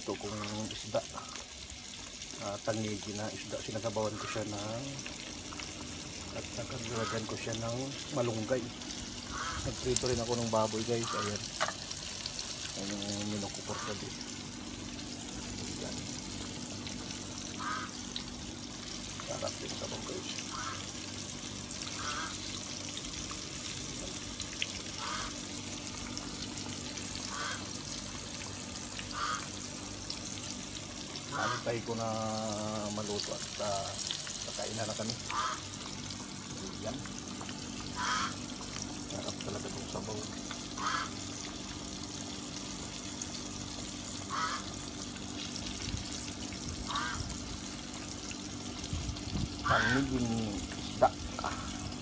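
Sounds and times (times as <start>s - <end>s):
soup bubbling and hissing: 0.0s - 52.0s.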